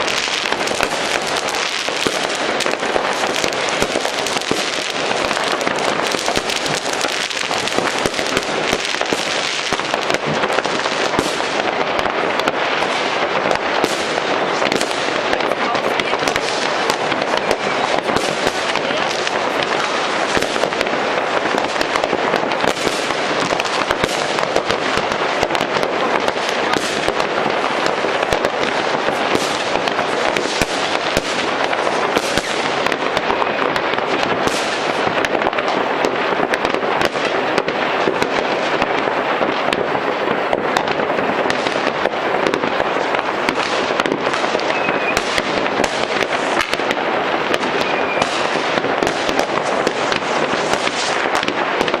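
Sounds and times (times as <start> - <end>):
fireworks crackling and banging: 0.0 - 52.0.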